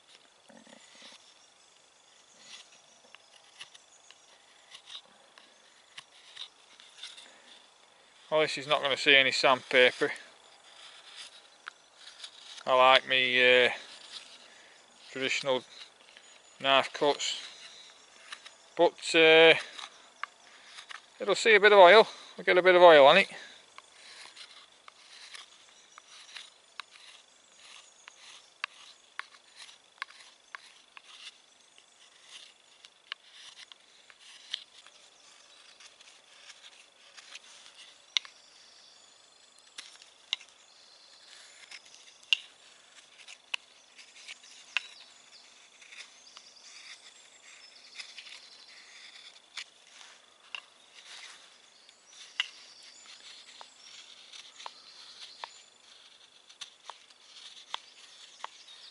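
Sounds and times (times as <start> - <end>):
knife scraping wood: 0.0 - 58.9.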